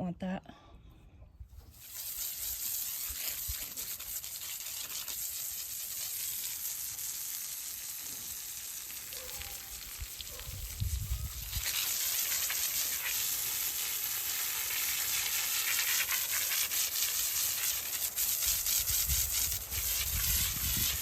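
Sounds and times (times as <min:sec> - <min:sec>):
hose spraying water: 0:01.6 - 0:21.0.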